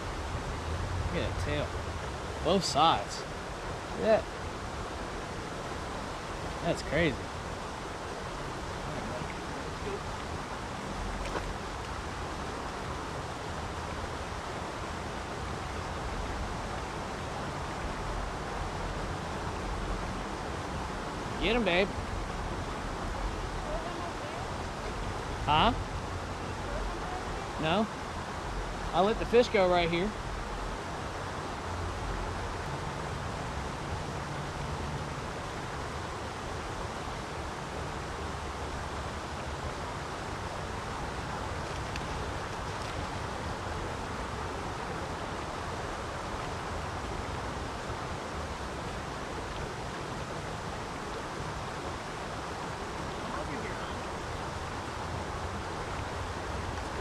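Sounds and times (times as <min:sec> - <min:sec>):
steady outdoor noise: 0:00.0 - 0:57.0
water rushing at a dam: 0:00.0 - 0:57.0.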